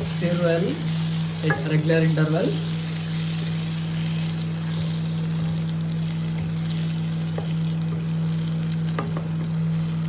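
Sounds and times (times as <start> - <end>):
cooktop low hum: 0.0 - 10.0
onions sizzling in a pan: 0.0 - 10.0.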